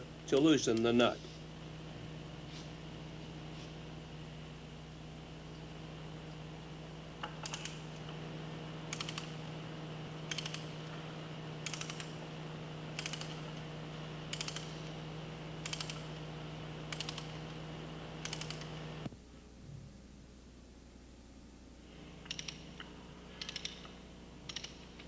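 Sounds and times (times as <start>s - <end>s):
low hum: 1.2s - 25.0s.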